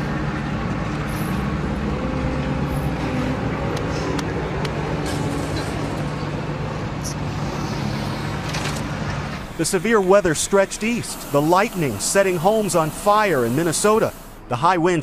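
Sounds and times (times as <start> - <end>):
engine running: 0.0 - 14.6.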